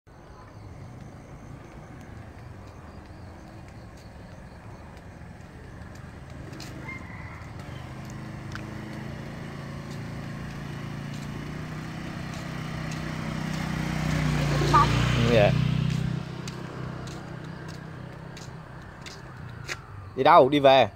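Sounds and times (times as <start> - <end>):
motor scooter engine: 0.2 - 20.2.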